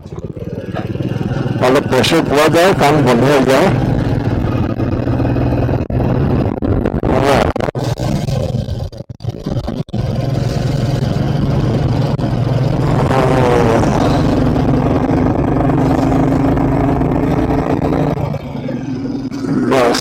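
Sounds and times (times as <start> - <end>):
higher engine note: 0.0 - 8.7, 10.0 - 20.0
motorcycle engine cruising: 0.0 - 20.0.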